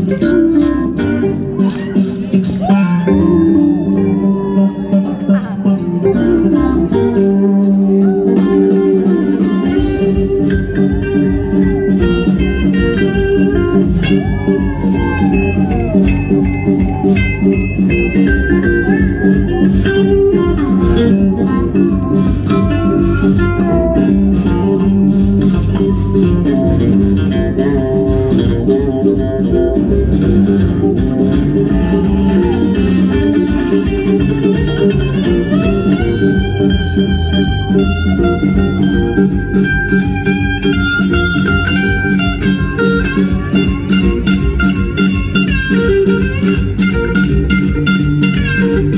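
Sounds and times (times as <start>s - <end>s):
drums: 0.0s - 48.9s
electric guitar lead: 0.0s - 48.9s
upright bass: 0.0s - 48.9s.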